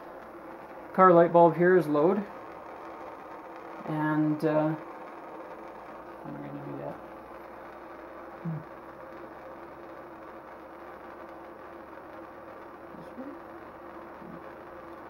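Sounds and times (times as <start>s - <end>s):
held tones: 0.0s - 15.0s
low-pitched sound: 0.0s - 15.0s
machine hum: 0.0s - 15.0s.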